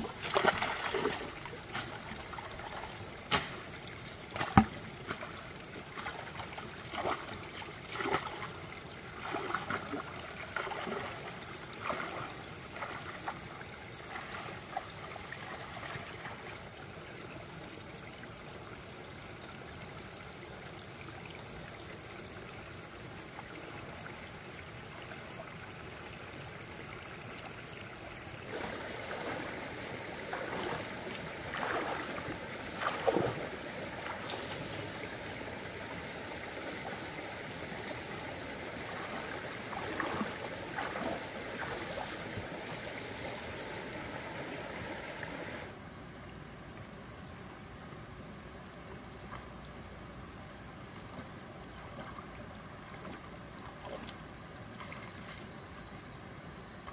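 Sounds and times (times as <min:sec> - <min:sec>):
flowing water rushing: 0:00.0 - 0:45.8
water splashing and trickling: 0:00.0 - 0:45.8, 0:46.6 - 0:56.9.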